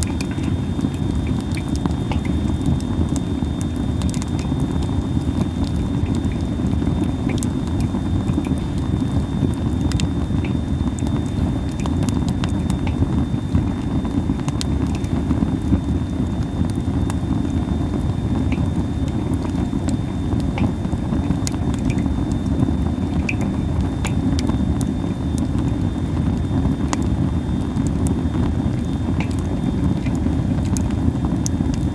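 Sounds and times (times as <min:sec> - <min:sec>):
campfire crackling: 0:00.0 - 0:31.9
low fire rumble: 0:00.0 - 0:31.9.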